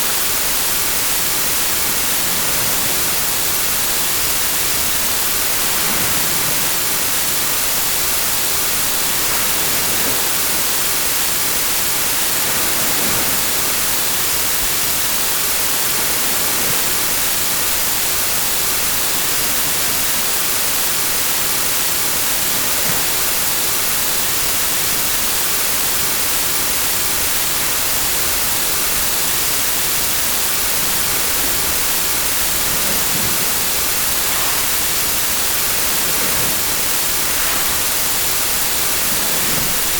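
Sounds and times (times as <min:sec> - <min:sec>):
white noise static hiss: 0:00.0 - 0:39.9.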